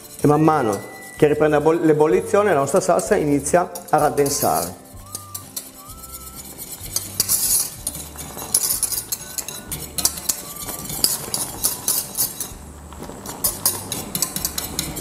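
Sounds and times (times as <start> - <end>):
whisk scraping and clinking in pan: 0.0 - 15.0.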